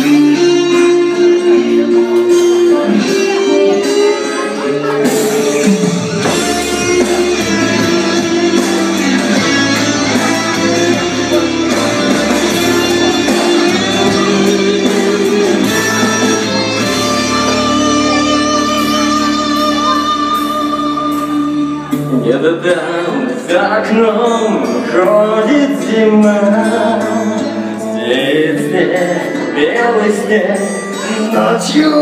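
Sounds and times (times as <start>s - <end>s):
guitar-led instrumental music: 0.0s - 32.0s.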